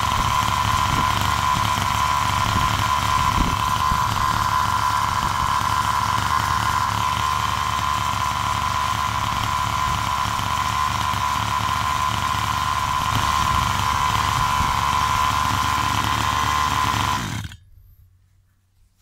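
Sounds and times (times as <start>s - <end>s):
small two-stroke engine running: 0.0s - 17.6s.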